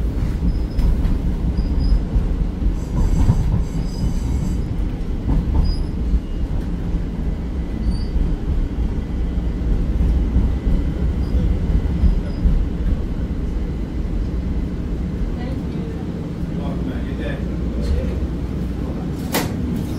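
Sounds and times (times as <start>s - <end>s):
rumble of wheels on track: 0.0s - 19.9s.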